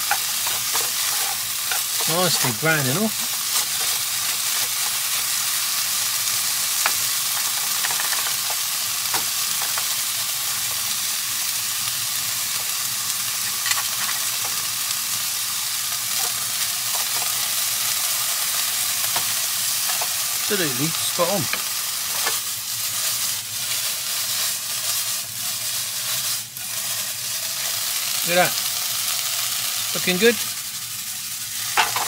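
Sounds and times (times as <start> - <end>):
chicken sizzling in frying pan: 0.0 - 32.0.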